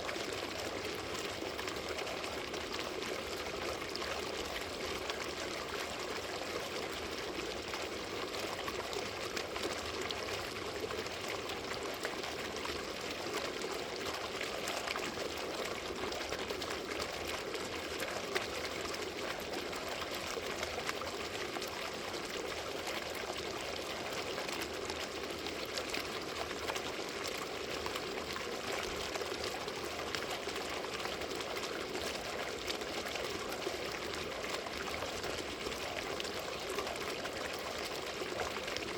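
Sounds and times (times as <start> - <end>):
water fountain splashing: 0.0 - 38.9.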